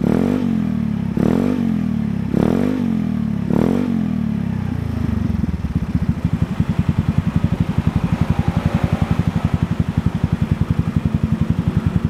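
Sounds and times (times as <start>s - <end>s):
scooter engine revving and idling: 0.0s - 12.0s.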